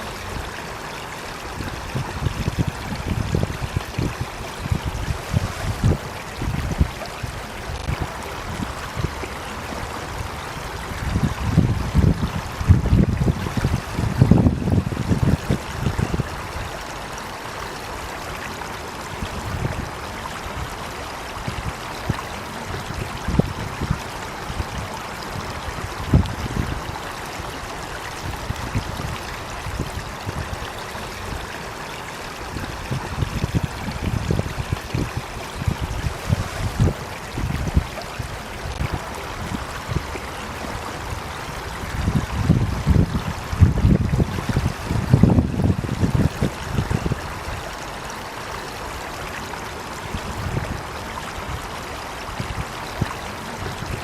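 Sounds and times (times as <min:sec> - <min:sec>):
stream of running water: 0:00.0 - 0:54.0.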